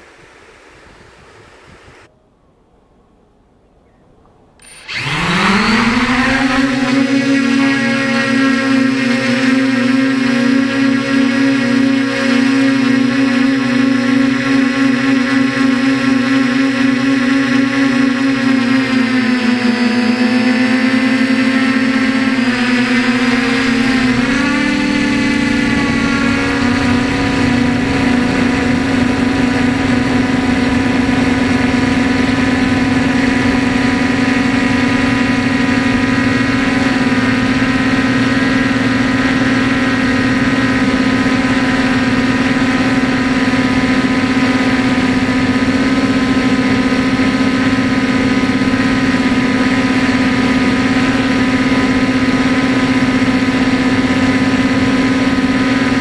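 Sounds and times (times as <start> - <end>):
drone motors whining: 4.6 - 56.0.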